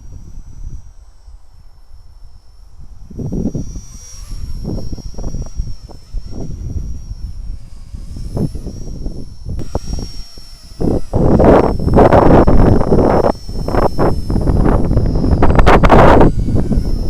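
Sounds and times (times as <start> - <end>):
rc helicopter rotor whine: 0.0 - 17.0
wind buffeting microphone: 2.7 - 17.0.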